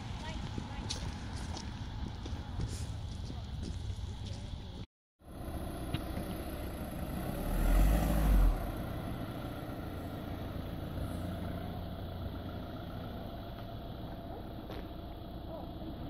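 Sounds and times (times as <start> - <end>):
outdoor noise: 0.0 - 16.0
car engine running: 0.2 - 7.7, 8.4 - 16.0.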